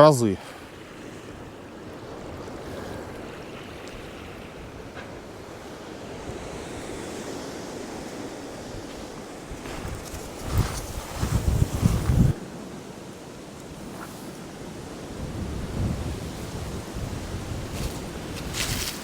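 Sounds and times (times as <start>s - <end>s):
sea surf: 0.0s - 19.0s
strong wind buffeting microphone: 0.6s - 19.0s.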